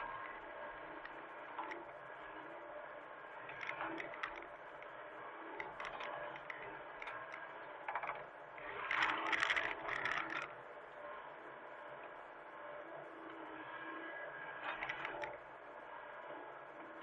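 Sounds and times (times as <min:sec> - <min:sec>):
excavator machine hum: 0:00.0 - 0:17.0.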